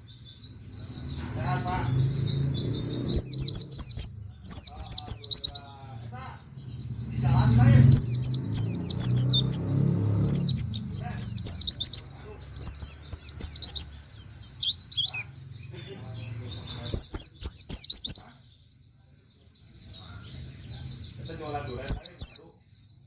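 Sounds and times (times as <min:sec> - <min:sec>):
bird singing whistled notes: 0:00.0 - 0:15.6, 0:16.2 - 0:23.0.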